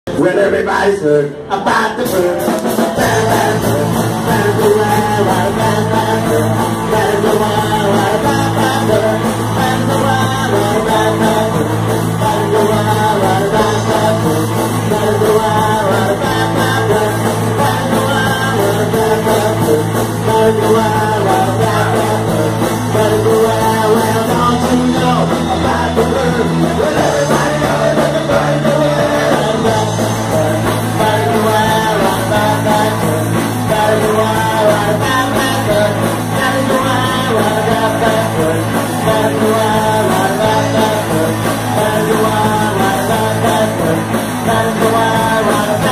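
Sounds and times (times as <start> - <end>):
person singing: 0.1 - 45.9
live punk rock band playing: 1.3 - 45.9.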